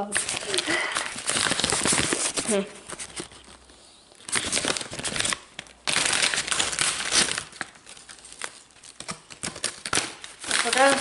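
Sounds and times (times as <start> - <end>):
crisp packet crinkling: 0.0 - 11.0.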